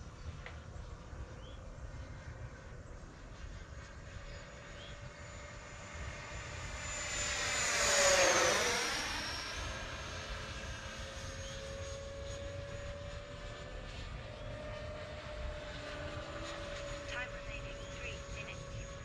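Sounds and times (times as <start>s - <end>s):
model jet fan whining: 0.0s - 19.0s.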